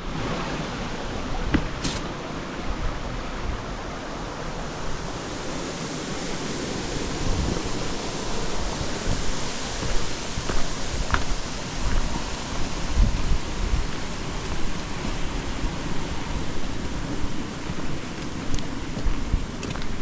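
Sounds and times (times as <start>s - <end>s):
steady rushing outdoor noise: 0.0s - 20.0s.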